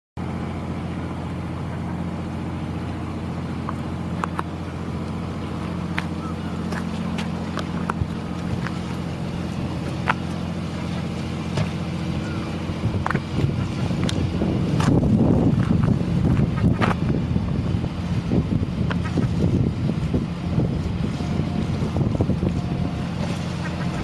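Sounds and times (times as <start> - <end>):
boat engine running: 0.2 - 24.0.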